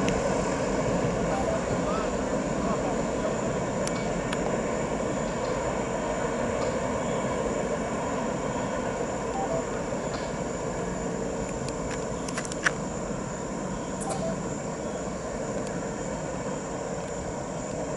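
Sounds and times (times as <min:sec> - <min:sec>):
freight train rumbling past: 0:00.0 - 0:17.9.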